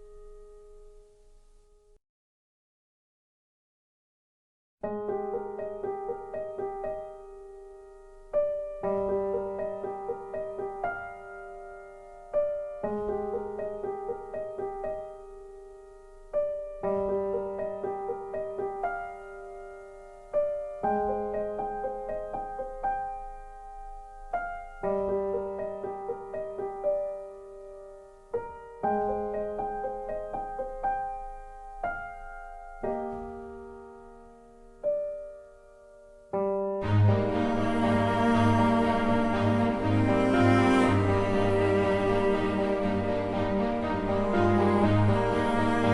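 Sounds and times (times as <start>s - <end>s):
gentle piano piece: 0.0s - 2.0s, 4.8s - 45.9s.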